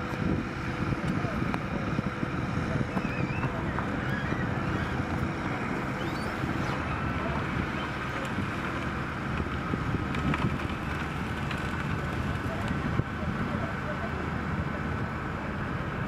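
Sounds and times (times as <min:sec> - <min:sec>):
excavator diesel engine running: 0:00.0 - 0:16.0
wind buffeting microphone: 0:00.0 - 0:16.0.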